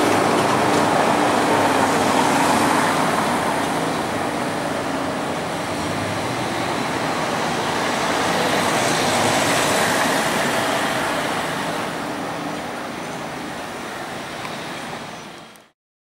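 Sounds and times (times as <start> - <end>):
car engines: 0.0 - 15.7
electric tram: 0.0 - 15.8.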